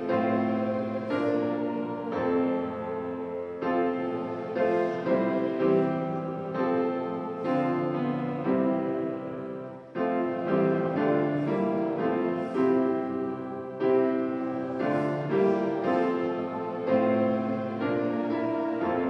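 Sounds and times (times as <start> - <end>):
slow hymn on piano: 0.0 - 19.0.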